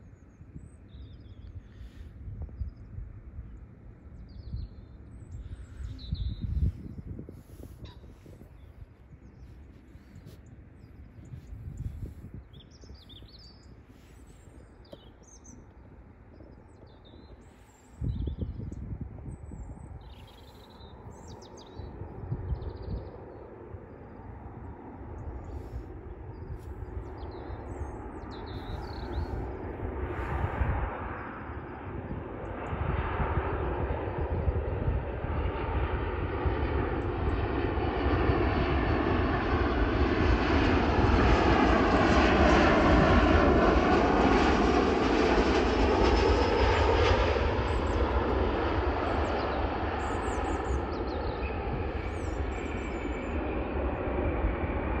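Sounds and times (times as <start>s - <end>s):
jet airliner engine rumble: 0.0s - 55.0s.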